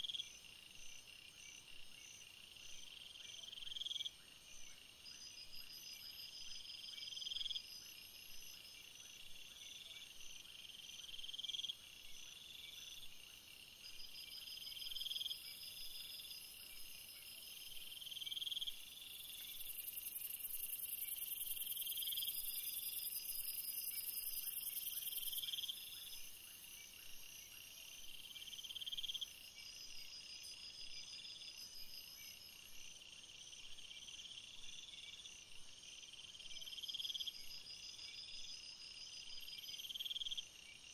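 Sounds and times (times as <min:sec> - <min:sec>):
insects chirping chorus: 0:00.0 - 0:40.9
insect trill: 0:05.0 - 0:40.9.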